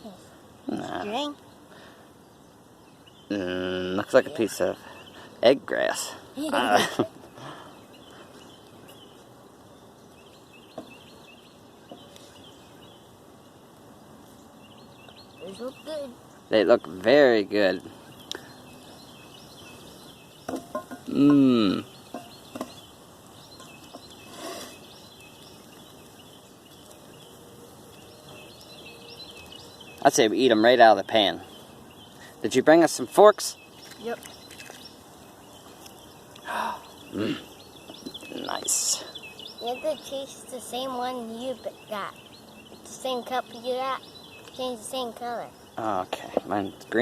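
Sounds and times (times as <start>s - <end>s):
faint bird chirps: 0.0s - 47.0s.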